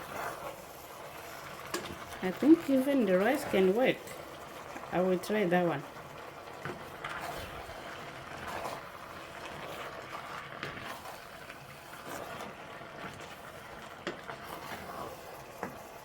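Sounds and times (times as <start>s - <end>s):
pot bubbling: 0.0s - 16.0s.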